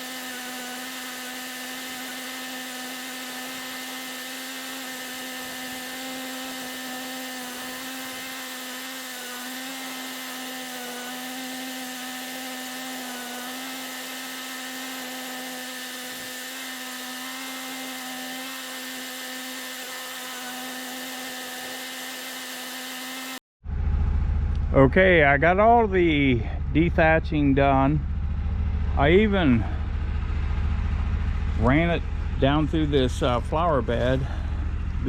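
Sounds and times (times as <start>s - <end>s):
tractor engine whining: 0.0s - 35.0s.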